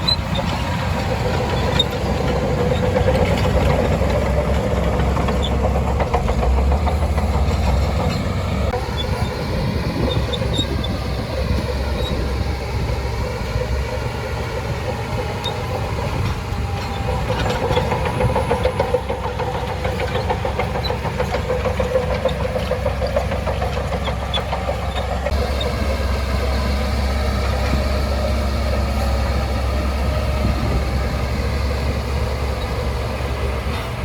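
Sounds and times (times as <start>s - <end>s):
bulldozer diesel engine: 0.0s - 34.0s.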